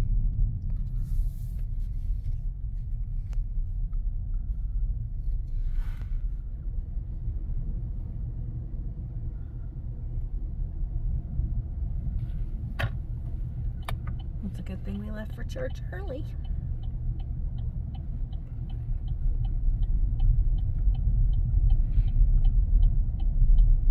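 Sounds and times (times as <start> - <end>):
car interior driving rumble: 0.0 - 23.9.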